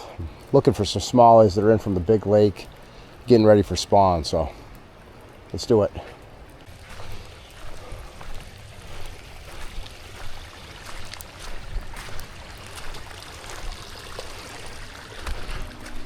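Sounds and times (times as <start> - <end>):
flowing river water: 0.0 - 16.0.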